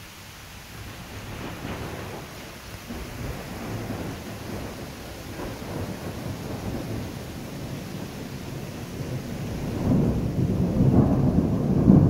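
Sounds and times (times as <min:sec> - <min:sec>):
steady rain: 0:00.0 - 0:12.0
thunder rumbling: 0:01.2 - 0:12.0.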